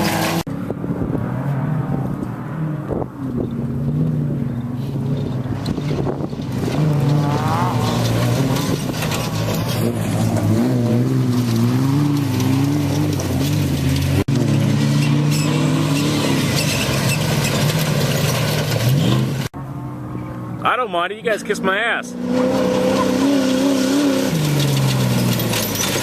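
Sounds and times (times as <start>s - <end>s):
race vehicle engine revving: 0.0s - 20.6s, 22.0s - 26.0s.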